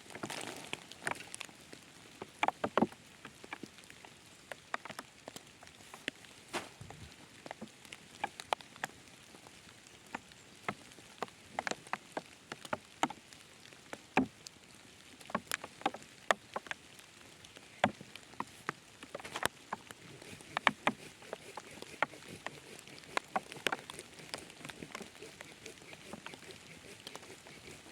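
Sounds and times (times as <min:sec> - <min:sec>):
faint steady hiss: 0:00.0 - 0:27.9.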